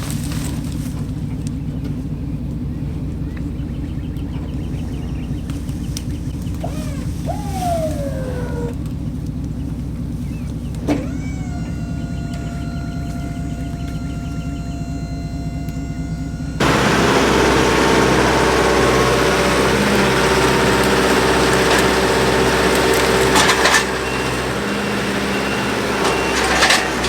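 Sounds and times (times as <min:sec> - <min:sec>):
engine hum: 0:00.0 - 0:27.0
loud engine running: 0:00.0 - 0:27.0.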